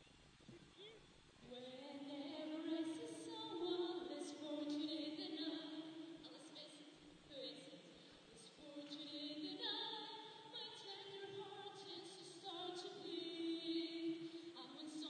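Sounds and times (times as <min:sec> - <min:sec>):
person singing with vibrato: 0:00.8 - 0:15.0.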